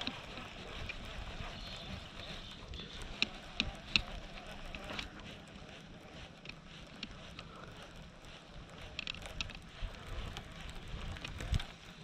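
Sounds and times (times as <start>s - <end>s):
faint clicks: 0.0s - 12.0s
wind rumbling on microphone: 0.0s - 12.0s.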